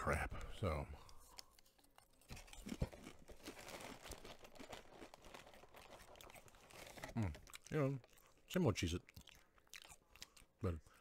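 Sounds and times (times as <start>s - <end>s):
cracker crunching: 1.0s - 10.6s.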